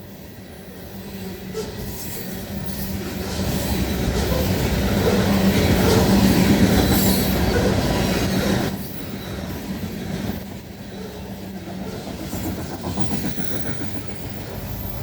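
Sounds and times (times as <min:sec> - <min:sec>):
train wheels clattering over rail: 0:01.5 - 0:10.5, 0:11.1 - 0:15.0.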